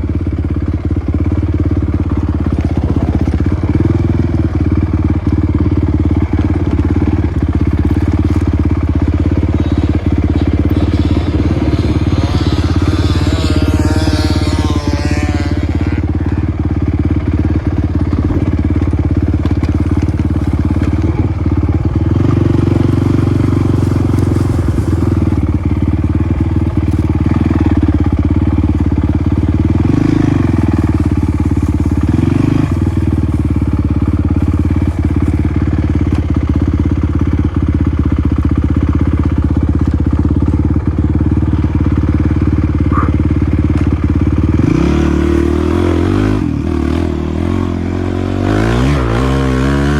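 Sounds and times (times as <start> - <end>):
dirt bike engine running: 0.0 - 49.9.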